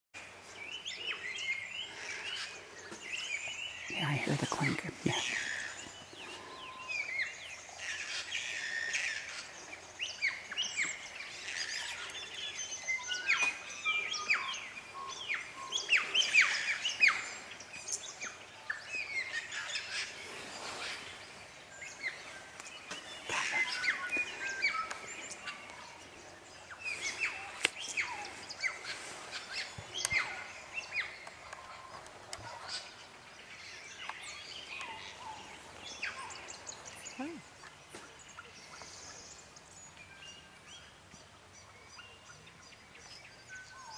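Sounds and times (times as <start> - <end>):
songbirds chirping: 0.2 - 43.9.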